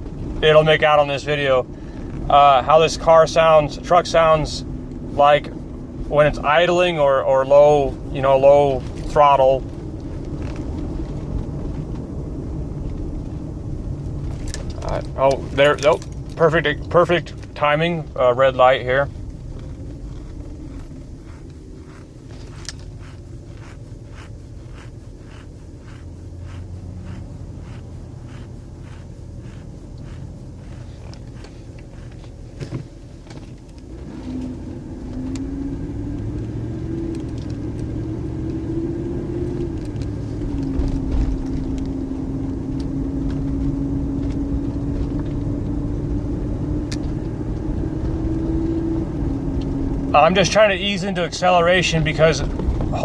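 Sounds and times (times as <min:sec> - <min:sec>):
engine ticking: 0:00.0 - 0:48.3
car engine idling: 0:00.0 - 0:53.0
car pulling away: 0:00.0 - 0:53.0.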